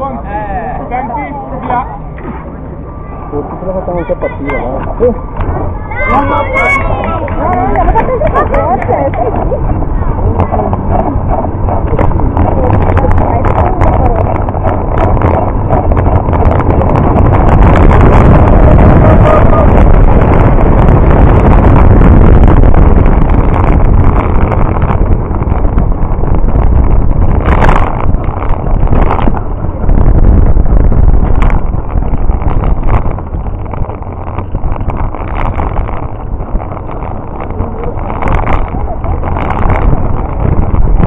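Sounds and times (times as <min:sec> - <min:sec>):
cart rolling on asphalt: 0:00.0 - 0:41.0
wind buffeting microphone: 0:00.0 - 0:41.0.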